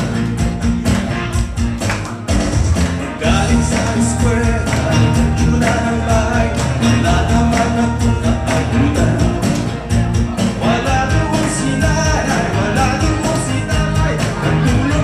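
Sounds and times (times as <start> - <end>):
live band playing: 0.0 - 15.0
steady drum beat: 0.0 - 15.0.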